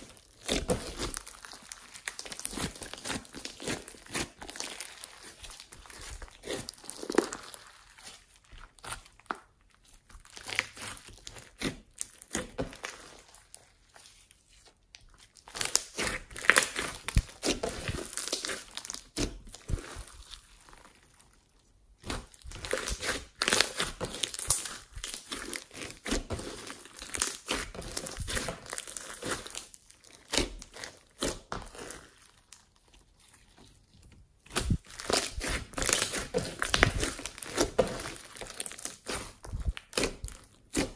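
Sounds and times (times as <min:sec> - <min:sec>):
hands squishing crackling slime: 0:00.0 - 0:40.9.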